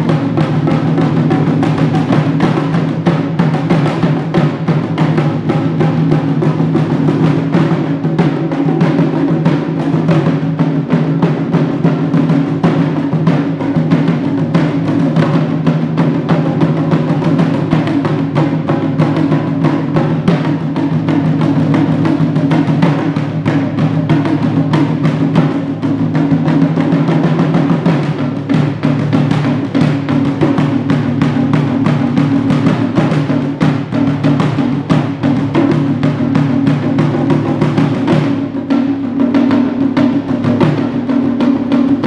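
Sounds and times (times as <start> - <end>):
taiko drums beaten with sticks: 0.0 - 42.0.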